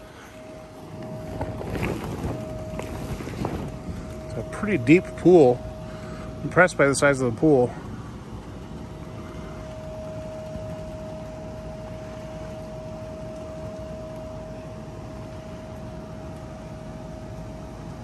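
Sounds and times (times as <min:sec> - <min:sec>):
electric blower whining: 0:00.0 - 0:17.4.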